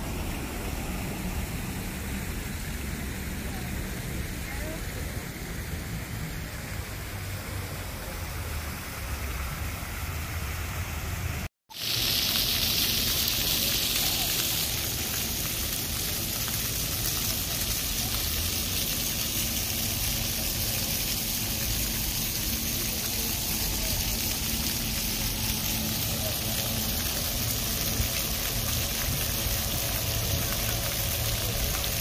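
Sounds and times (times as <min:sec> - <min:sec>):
fountain jets splashing on paving: 0:00.0 - 0:32.0.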